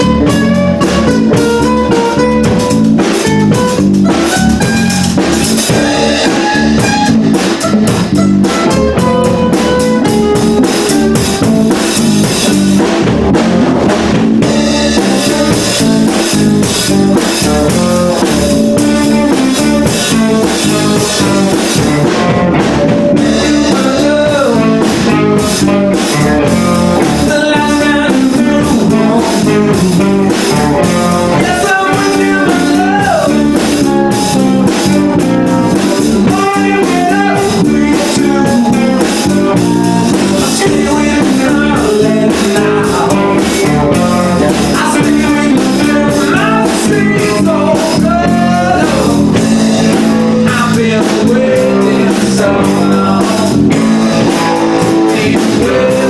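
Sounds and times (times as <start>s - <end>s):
bending guitar melody notes: 0.0s - 56.0s
live rock band playing: 0.0s - 56.0s.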